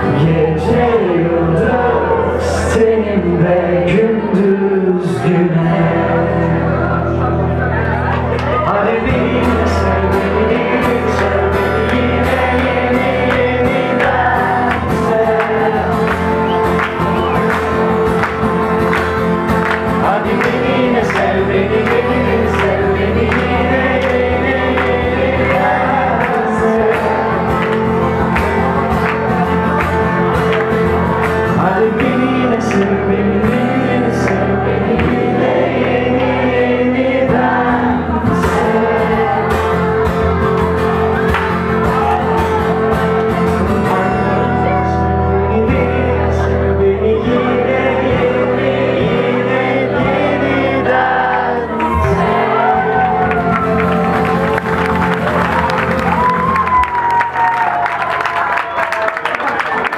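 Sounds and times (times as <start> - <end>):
man singing: 0.0 - 7.8, 8.4 - 17.5, 19.6 - 40.0, 41.8 - 54.7
voices singing along: 0.0 - 18.5, 19.4 - 57.8
acoustic guitar chords: 0.0 - 58.7.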